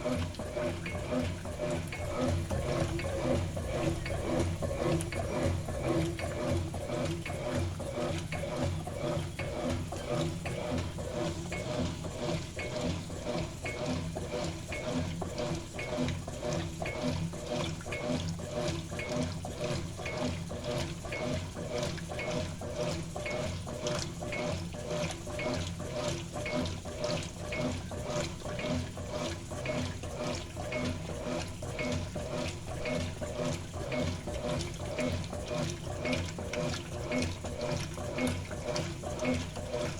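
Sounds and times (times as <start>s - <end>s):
washing machine churning water: 0.0s - 39.9s.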